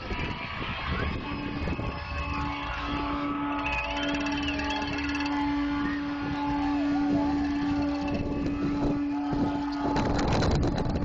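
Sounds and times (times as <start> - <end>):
steady low drone: 0.0 - 11.0
street parade crowd: 0.0 - 11.0
warbling tones: 0.1 - 11.0.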